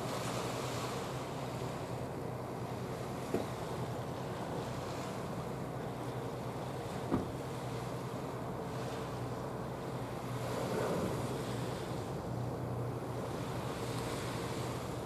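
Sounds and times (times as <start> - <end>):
sea noise: 0.0 - 15.0.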